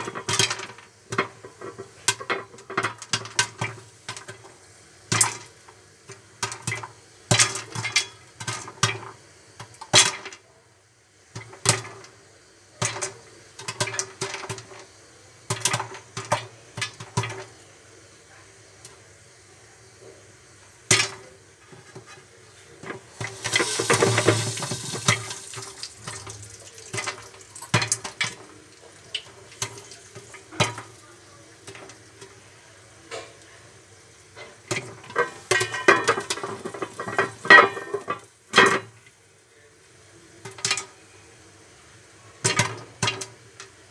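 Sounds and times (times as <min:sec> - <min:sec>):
popcorn popping: 0:00.0 - 0:10.6, 0:11.2 - 0:39.2, 0:40.1 - 0:41.3, 0:42.0 - 0:43.9
faint steady hiss: 0:00.0 - 0:43.9.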